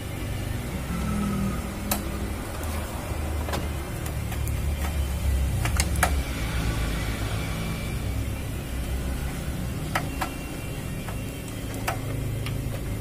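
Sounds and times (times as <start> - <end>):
photocopier humming: 0.0 - 13.0.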